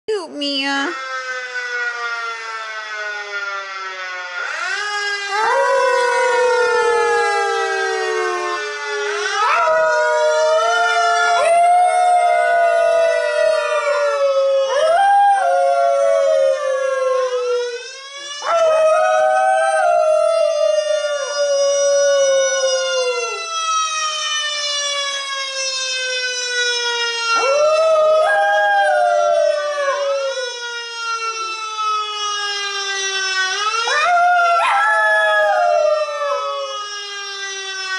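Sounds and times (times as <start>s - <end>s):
fire truck siren: 0.2s - 37.9s.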